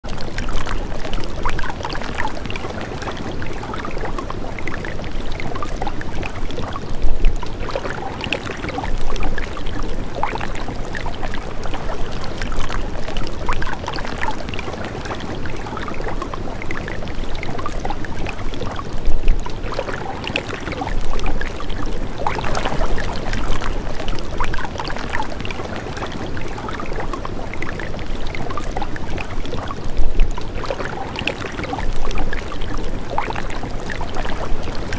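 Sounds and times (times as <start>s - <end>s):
water flowing and splashing: 0.0s - 34.9s.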